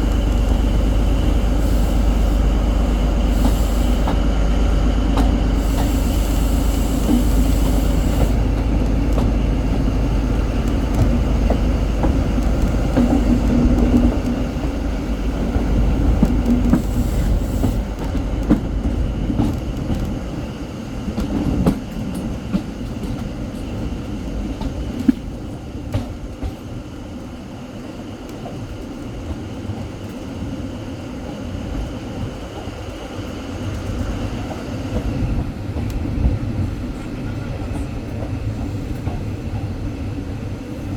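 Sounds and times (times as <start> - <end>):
train diesel engine and wheels rumbling: 0.0 - 40.9.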